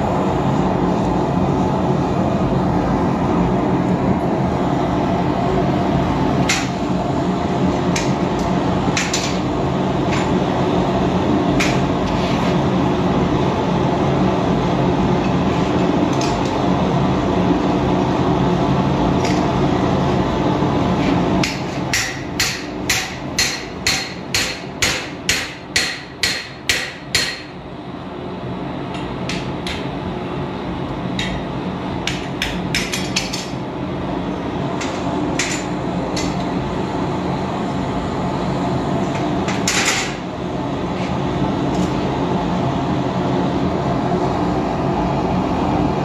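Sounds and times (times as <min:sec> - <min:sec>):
gas forge rumble: 0:00.0 - 0:46.0.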